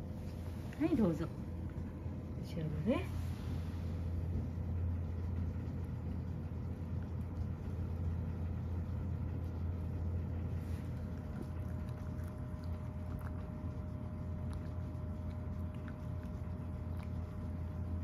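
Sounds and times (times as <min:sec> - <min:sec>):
steady low hum: 0:00.0 - 0:18.0
cat chewing food: 0:03.3 - 0:18.0.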